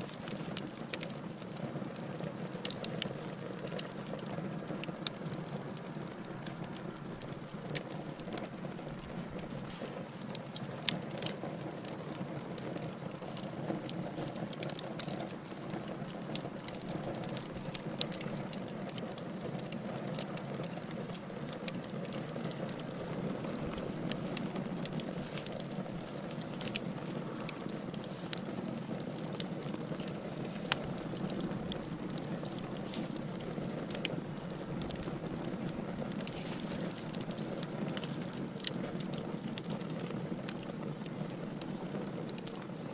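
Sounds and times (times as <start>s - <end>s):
fire pops: 0.0s - 42.9s
wood fire crackling: 0.0s - 42.9s.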